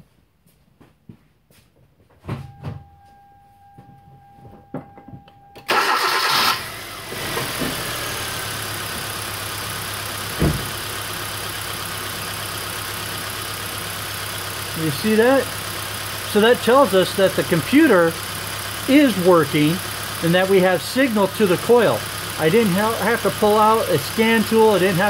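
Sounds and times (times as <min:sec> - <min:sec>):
car engine cranking and idling: 0:02.4 - 0:25.0.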